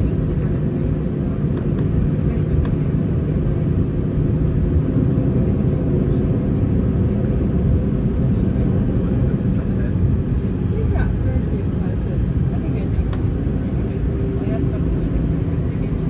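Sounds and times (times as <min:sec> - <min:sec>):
aircraft engines idling in cabin: 0:00.0 - 0:16.0.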